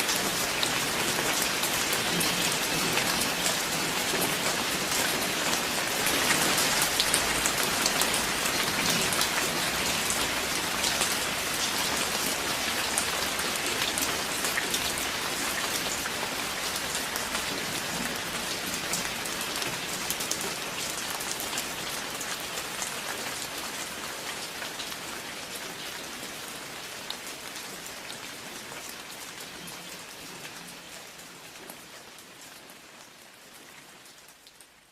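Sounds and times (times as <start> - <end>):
rain on a hard surface: 0.0 - 34.9.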